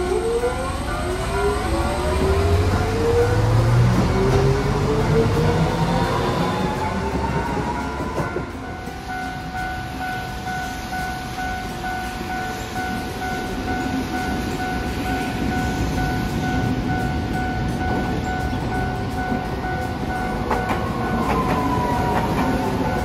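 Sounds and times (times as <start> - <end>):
level-crossing alarm ringing: 0.0 - 23.0
low tramway rumble: 0.0 - 23.0
tram motor whine: 0.0 - 23.0.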